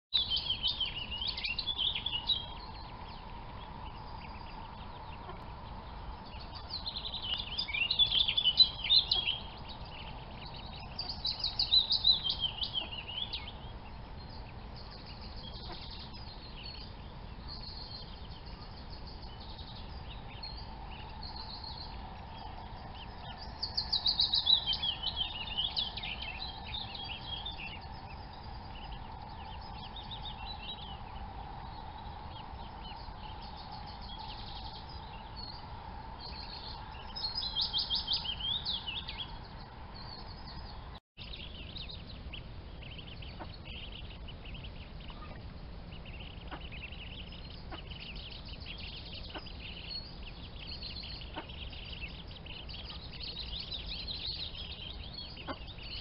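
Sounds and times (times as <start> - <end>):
birds chirping: 0.2 - 56.0
steady background hiss: 0.2 - 56.0.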